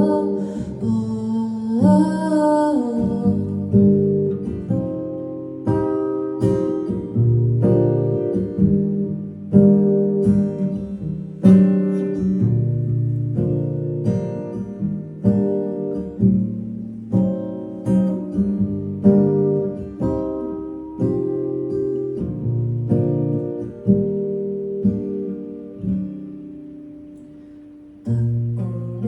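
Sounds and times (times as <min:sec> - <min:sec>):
acoustic guitar chords: 0:00.0 - 0:29.0.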